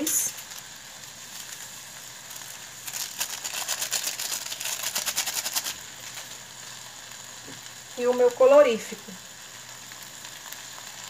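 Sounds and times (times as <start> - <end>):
seasoning sachet crackling: 0.0 - 11.0.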